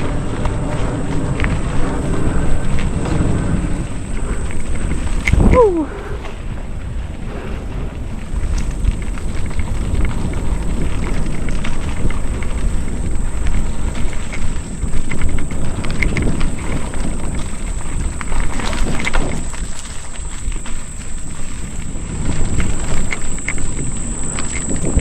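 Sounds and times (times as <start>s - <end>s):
bike rattling and knocking: 0.0s - 5.6s, 7.8s - 25.0s
bike tyre noise: 0.0s - 25.0s
wind rumbling on microphone: 0.0s - 25.0s.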